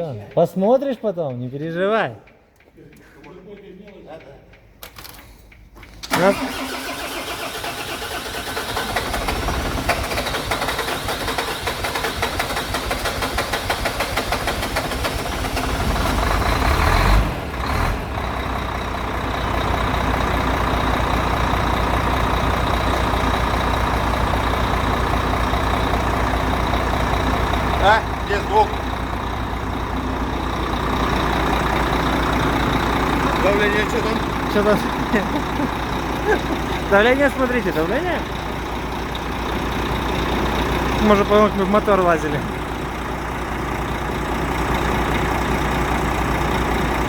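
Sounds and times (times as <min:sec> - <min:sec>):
diesel engine starting and idling: 0:04.6 - 0:47.0.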